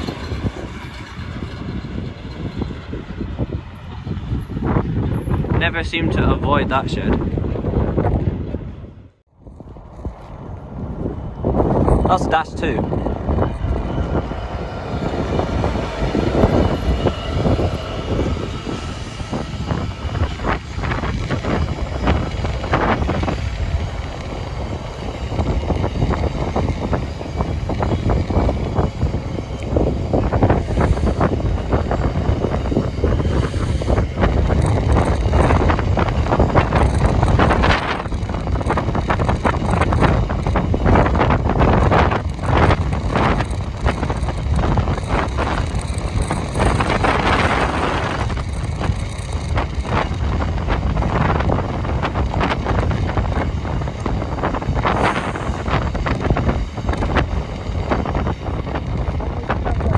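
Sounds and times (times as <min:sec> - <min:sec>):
train wagons rumbling past: 0:00.0 - 0:59.9
wheels clattering over rails: 0:00.0 - 0:59.9
wind buffeting microphone: 0:00.0 - 0:59.9.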